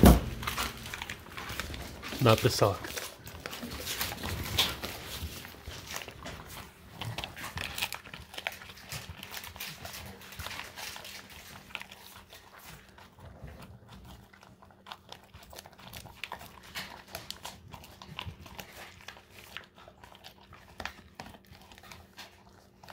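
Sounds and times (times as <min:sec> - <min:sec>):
dog crunching dried fish: 0:00.0 - 0:22.9.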